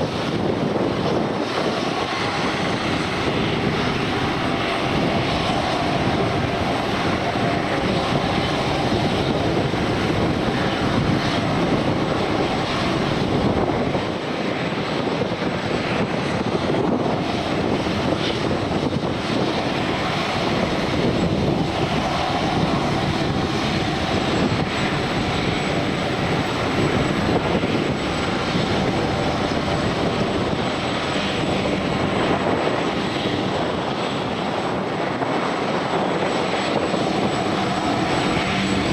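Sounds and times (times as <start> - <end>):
airliner engines running: 0.0 - 38.9.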